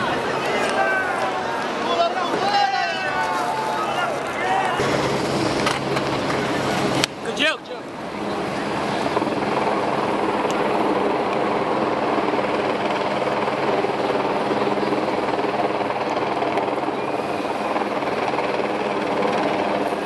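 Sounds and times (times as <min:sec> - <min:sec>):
loud engine drone: 0:03.7 - 0:20.0.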